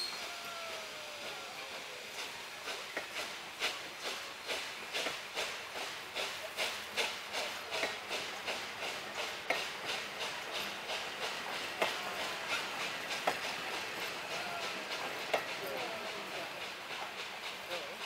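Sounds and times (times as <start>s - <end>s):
steam locomotive exhaust chuffing: 0.0s - 18.0s
wheels clicking on rails: 0.0s - 18.0s.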